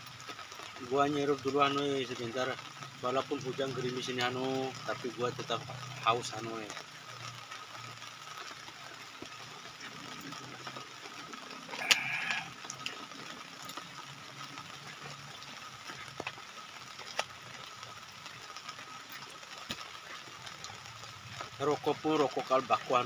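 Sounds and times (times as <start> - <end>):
light drizzle pattering: 0.0 - 23.0.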